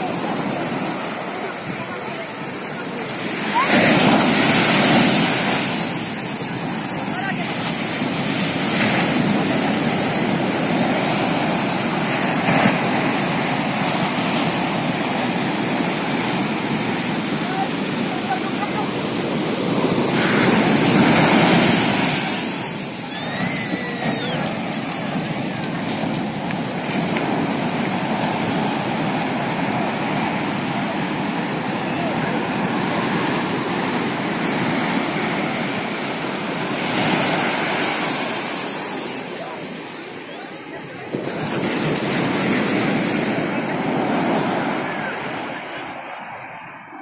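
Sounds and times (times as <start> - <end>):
ocean waves breaking: 0.0 - 47.0.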